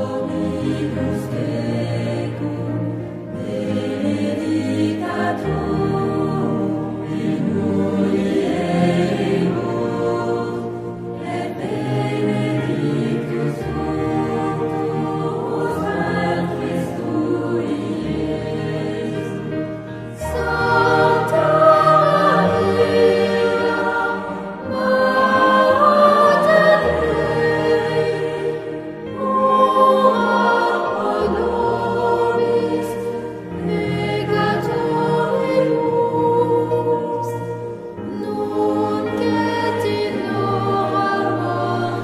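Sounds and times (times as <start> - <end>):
choir singing sacred music: 0.0 - 42.0.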